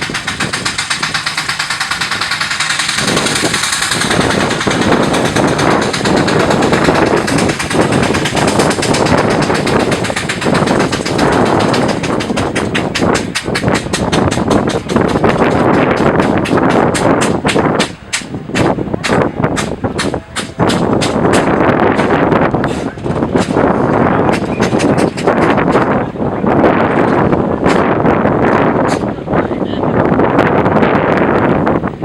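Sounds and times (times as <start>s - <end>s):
steam traction engine exhaust beats: 0.0s - 32.0s.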